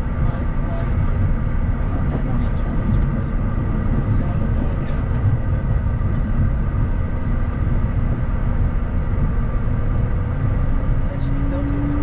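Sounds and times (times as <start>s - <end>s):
jet engines running: 0.0s - 12.0s
low rumble of wheels: 0.0s - 12.0s.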